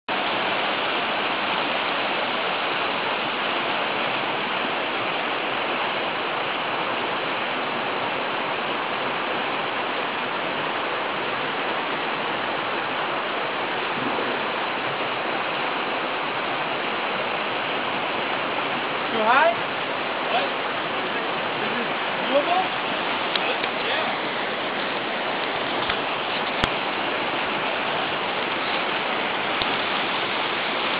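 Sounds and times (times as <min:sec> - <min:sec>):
river water rushing: 0:00.1 - 0:30.9.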